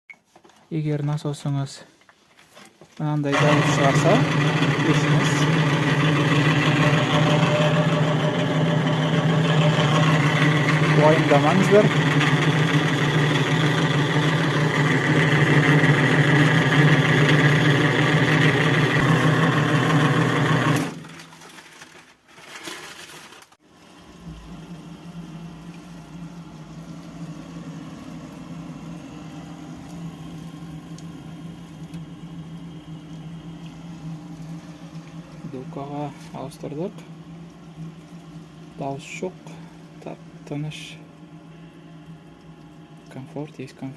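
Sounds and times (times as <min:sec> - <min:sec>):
quiet pump humming: 0:00.1 - 0:21.8, 0:23.6 - 0:43.9
pump running with rough noise: 0:03.2 - 0:21.9, 0:24.0 - 0:41.8.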